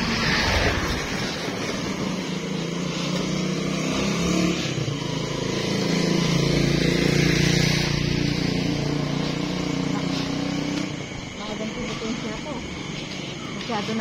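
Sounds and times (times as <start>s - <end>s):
motorcycle tricycle engine running: 1.4s - 14.0s.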